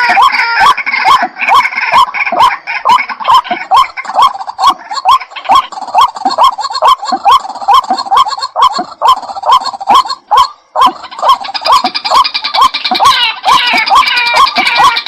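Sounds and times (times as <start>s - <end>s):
bird calling repeated short notes: 0.0s - 15.0s.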